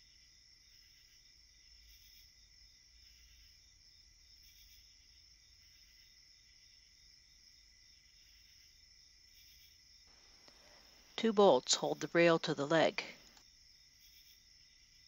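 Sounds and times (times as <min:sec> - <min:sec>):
insects trilling: 0:00.0 - 0:11.0, 0:13.4 - 0:15.0.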